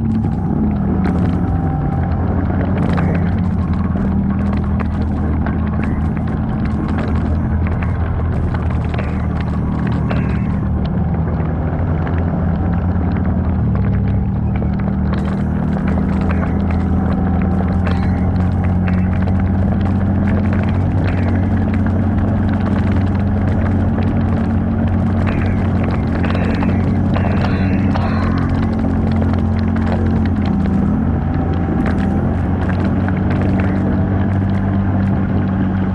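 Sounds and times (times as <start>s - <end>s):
knocks and rattles: 0.0s - 35.9s
vehicle engine running: 0.0s - 35.9s.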